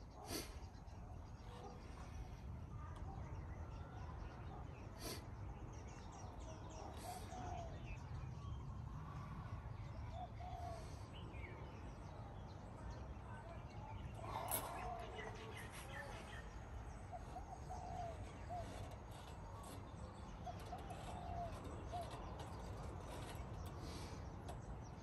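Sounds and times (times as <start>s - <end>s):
faint bird chirps: 0.1s - 25.0s.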